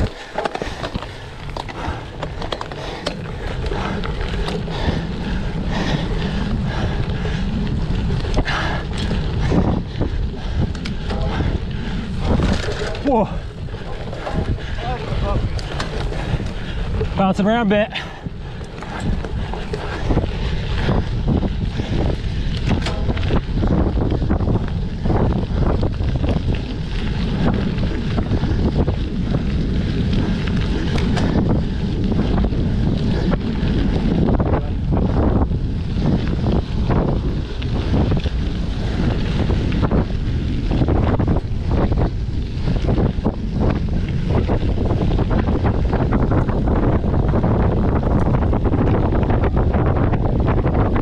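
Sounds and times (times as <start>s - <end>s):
bike knocks and rattles: 0.0s - 51.0s
wind rushing over microphone: 0.0s - 51.0s.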